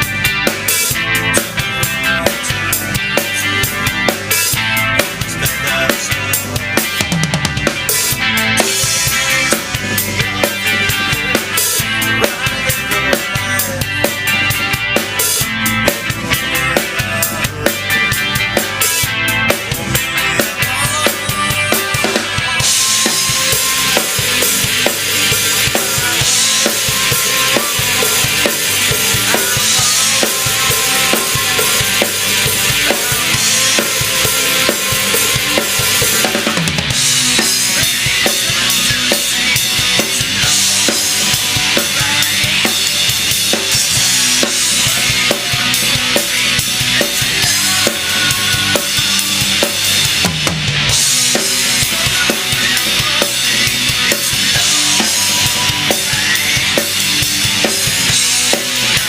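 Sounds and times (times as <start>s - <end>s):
bass drum and snare beat: 0.0s - 59.0s
rock band music: 0.0s - 59.0s.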